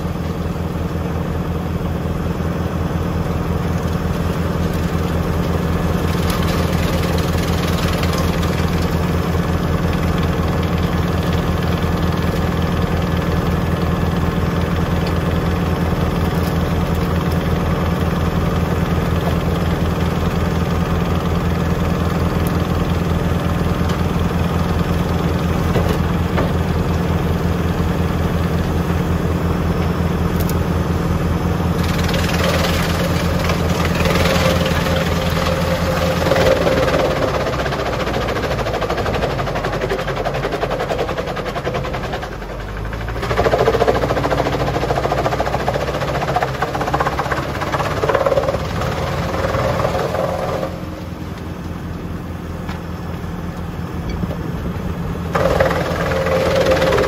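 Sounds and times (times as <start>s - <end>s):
tractor engine running: 0.0s - 57.0s
wood chipper rushing noise: 0.0s - 57.0s.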